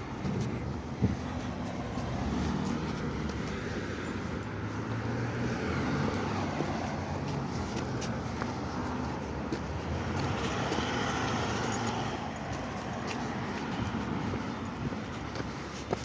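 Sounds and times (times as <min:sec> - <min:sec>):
vehicle engine passing by: 0:00.2 - 0:15.0.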